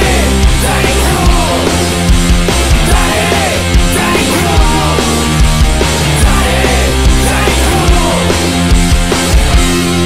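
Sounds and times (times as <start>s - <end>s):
loud hard rock music: 0.0s - 10.0s.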